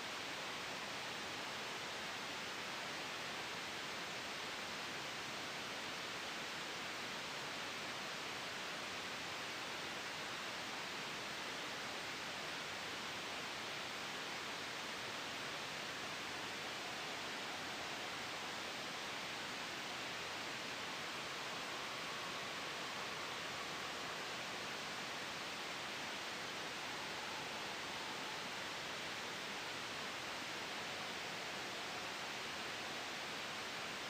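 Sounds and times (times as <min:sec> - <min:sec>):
steady white noise hiss: 0:00.0 - 0:34.0.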